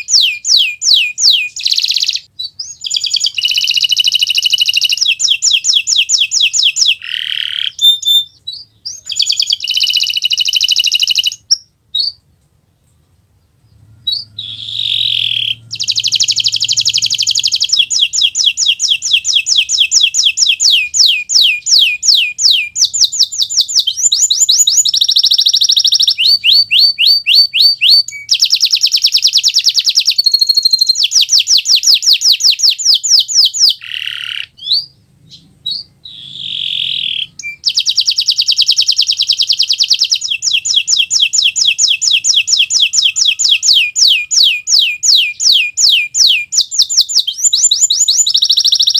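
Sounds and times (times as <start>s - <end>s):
canary singing fast trills: 0.0s - 12.3s, 13.3s - 48.9s.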